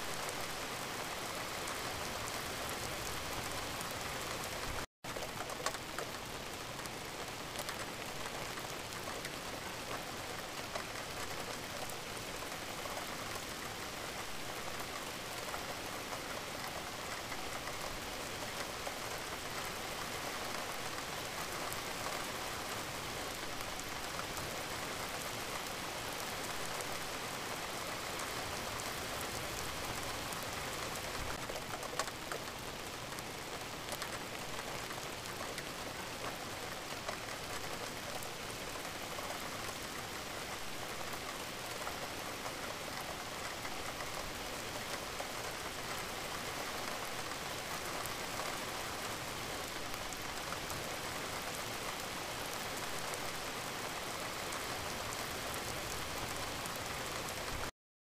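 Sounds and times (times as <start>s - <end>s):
rainfall hiss: 0.0s - 57.7s
raindrops pattering: 0.1s - 57.7s.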